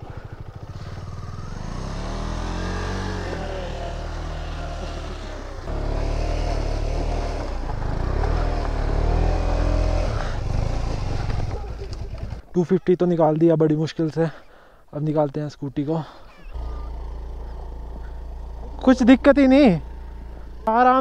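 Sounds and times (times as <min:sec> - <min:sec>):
motorcycle engine revving: 0:00.0 - 0:12.4, 0:16.4 - 0:21.0.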